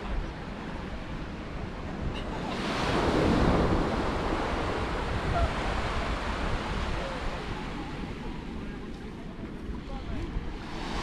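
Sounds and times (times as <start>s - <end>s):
waves breaking on a beach: 0.0s - 11.0s
wind rumble on microphone: 0.0s - 11.0s.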